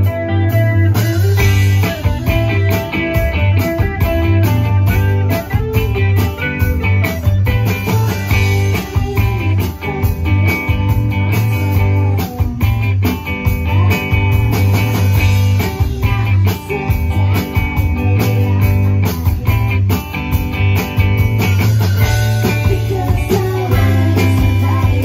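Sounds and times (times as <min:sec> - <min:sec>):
bass guitar: 0:00.0 - 0:25.0
drum kit: 0:00.0 - 0:25.0
electric guitars: 0:00.0 - 0:25.0.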